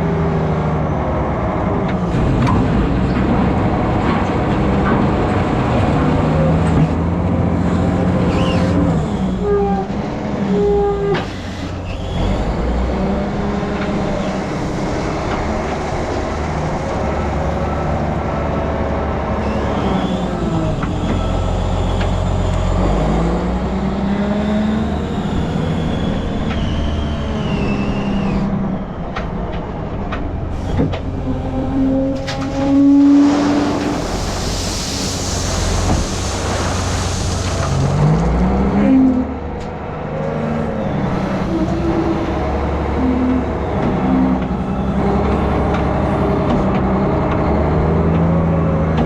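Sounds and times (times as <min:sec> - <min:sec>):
heavy diesel engine revving: 0:00.0 - 0:29.1, 0:29.8 - 0:49.0.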